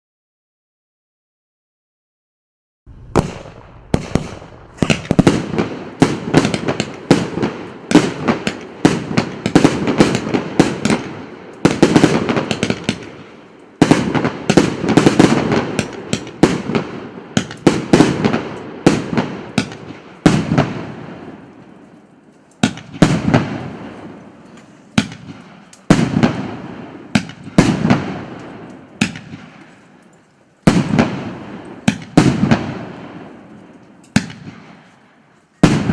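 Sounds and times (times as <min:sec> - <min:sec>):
firework battery shots and bursts: 0:02.9 - 0:21.7, 0:22.6 - 0:35.9.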